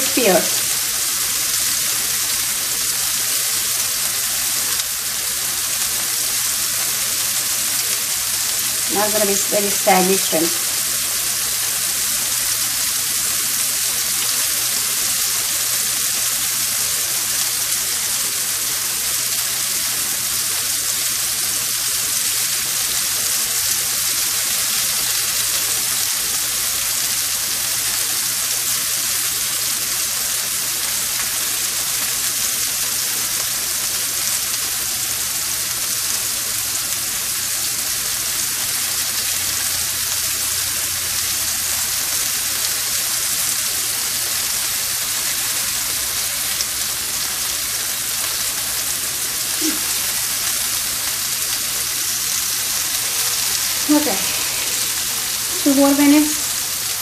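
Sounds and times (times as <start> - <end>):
shrimp sizzling in pan: 0.0 - 57.0.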